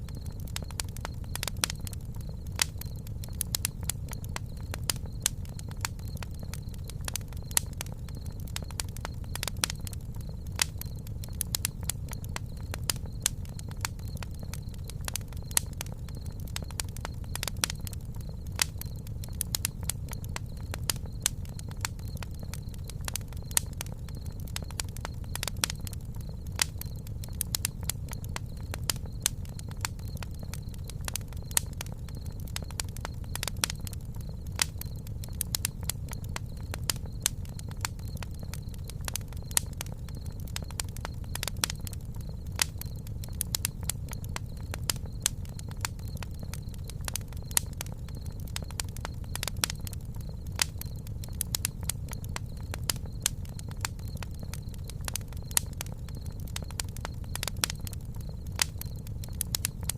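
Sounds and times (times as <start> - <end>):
campfire crackling and popping: 0.0 - 59.9
low fire rumble: 0.0 - 59.9.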